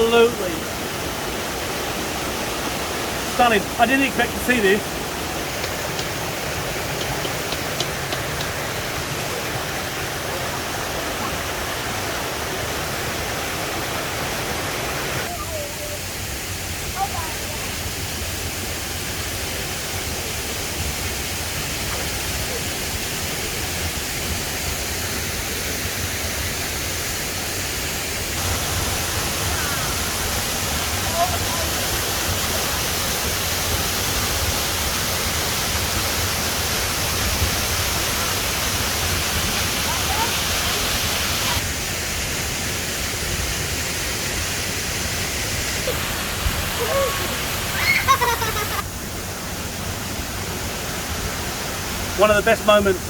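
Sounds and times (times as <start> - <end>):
waterfall pouring: 0.0 - 53.0.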